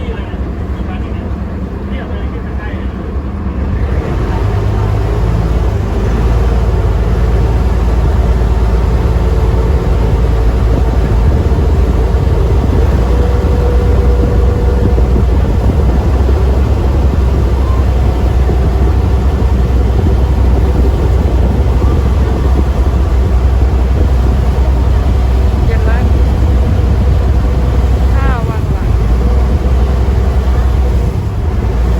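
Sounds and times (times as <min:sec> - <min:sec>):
ferry engine droning: 0:00.0 - 0:31.9.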